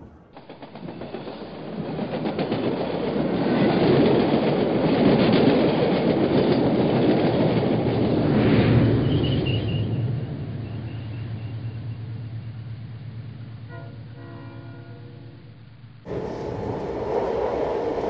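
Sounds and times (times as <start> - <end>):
model train rumbling on track: 0.0 - 18.0.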